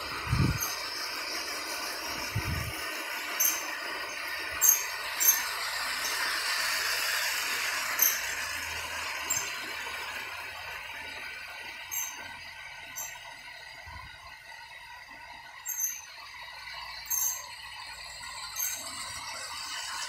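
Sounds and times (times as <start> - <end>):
toy electric train whirring: 0.0 - 20.0.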